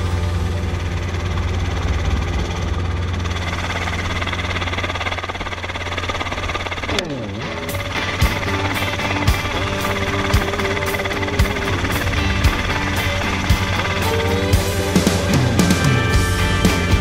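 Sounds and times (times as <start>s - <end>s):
falling then rising tone: 0.0s - 17.0s
helicopter rotor and engine drone: 0.0s - 17.0s.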